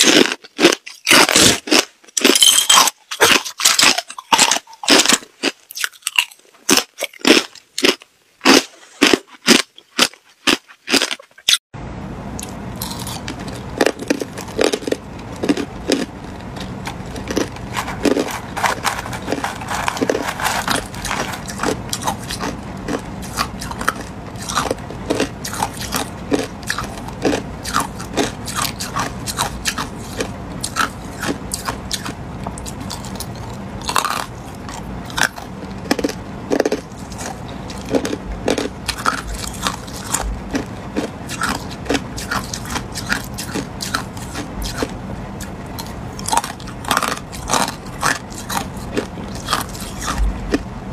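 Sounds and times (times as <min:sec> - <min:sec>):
ice being bitten and chewed: 0:00.0 - 0:11.6, 0:12.4 - 0:50.6.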